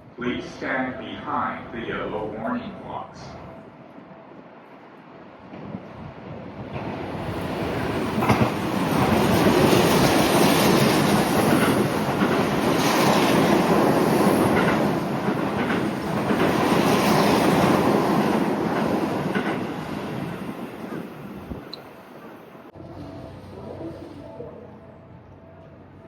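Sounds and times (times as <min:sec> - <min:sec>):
train passing through: 0:00.0 - 0:26.0.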